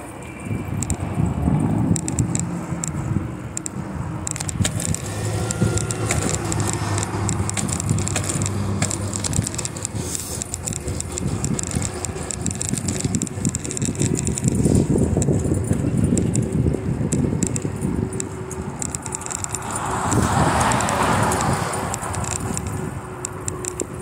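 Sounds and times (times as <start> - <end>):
wind rumble on microphone: 0.0 - 24.0
bicycle parts rattling: 0.8 - 24.0.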